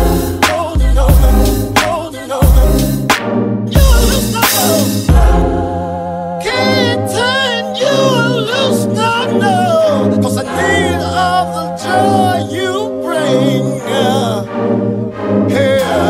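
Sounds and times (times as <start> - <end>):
song with sung vocals: 0.0 - 16.0.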